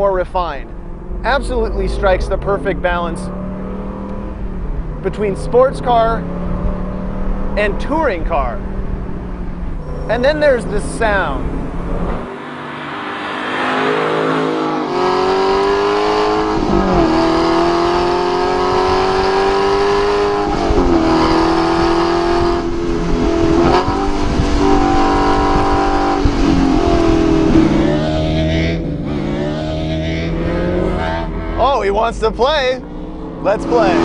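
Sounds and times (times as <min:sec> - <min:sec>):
engine shifting up through gears: 0:00.2 - 0:34.0
sports car accelerating hard: 0:00.6 - 0:34.0.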